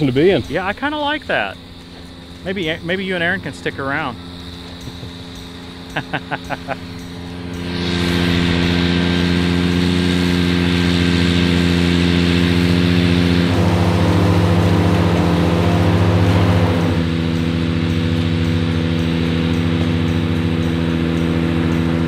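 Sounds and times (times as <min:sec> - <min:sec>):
mower cutting grass: 0:00.0 - 0:22.0
tractor engine running: 0:00.0 - 0:22.0.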